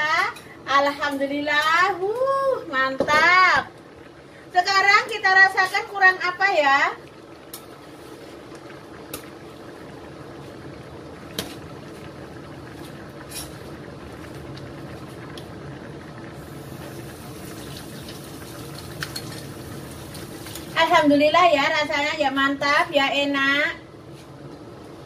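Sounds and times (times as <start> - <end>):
soup bubbling in a pan: 0.1 - 22.5.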